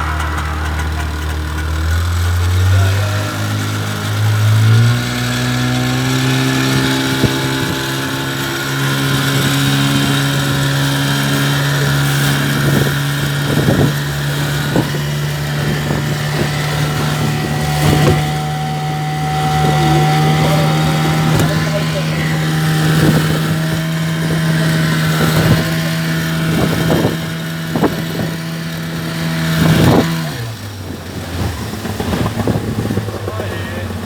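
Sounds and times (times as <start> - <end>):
motorboat engine running: 0.0 - 34.0.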